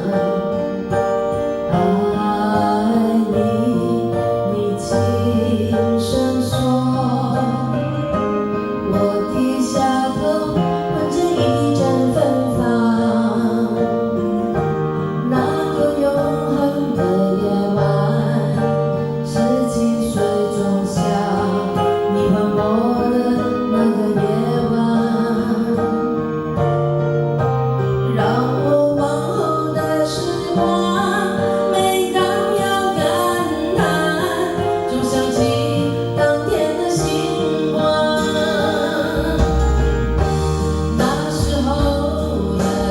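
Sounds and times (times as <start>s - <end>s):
backing track with bass notes: 0.0s - 42.9s
person singing karaoke: 0.0s - 42.9s.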